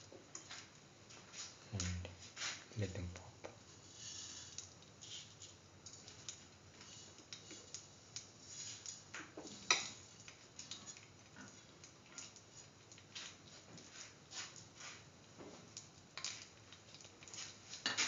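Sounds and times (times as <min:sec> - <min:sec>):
seeds crackling in hot oil: 0:00.0 - 0:18.0.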